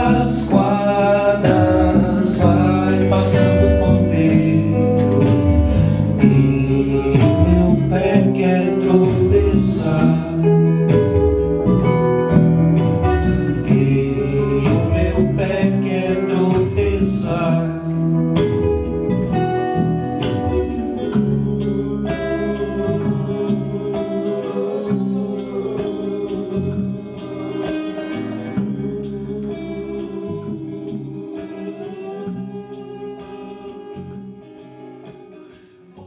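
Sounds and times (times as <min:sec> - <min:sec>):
band song with guitars and singing: 0:00.0 - 0:36.0.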